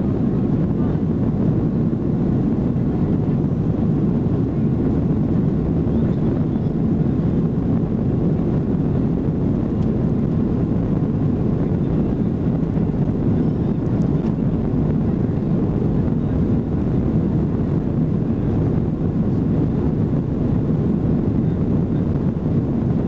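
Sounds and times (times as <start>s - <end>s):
airliner cabin jet engine rush: 0.0s - 23.0s.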